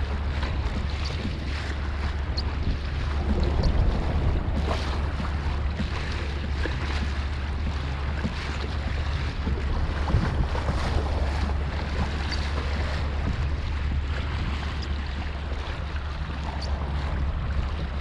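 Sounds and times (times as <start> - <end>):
water lapping against kayak hull: 0.0 - 18.0
wind buffeting microphone: 0.0 - 18.0.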